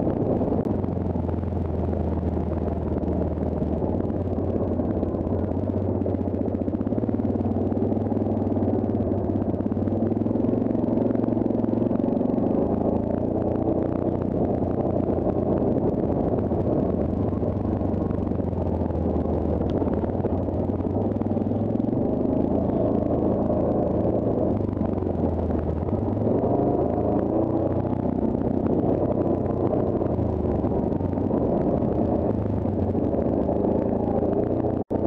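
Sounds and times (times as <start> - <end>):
quad engine running: 0.0 - 35.0.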